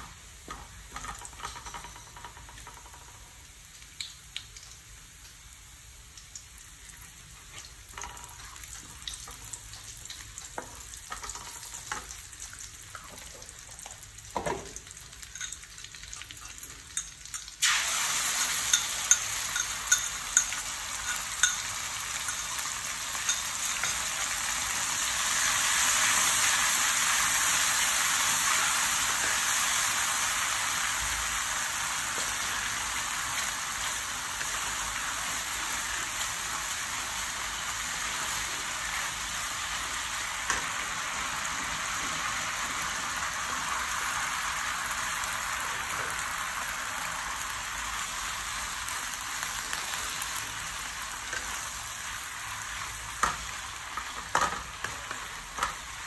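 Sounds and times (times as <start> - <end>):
garlic frying in oil: 0.0 - 56.0
sauce sizzling and popping: 0.0 - 56.0.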